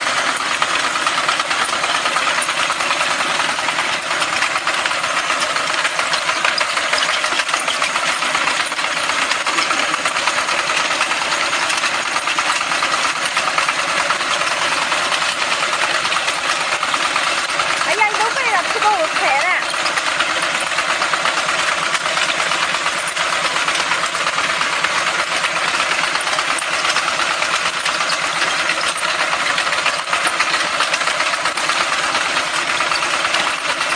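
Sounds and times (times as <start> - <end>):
harvester rattle and clatter: 0.0 - 33.9
tractor engine: 0.0 - 33.9.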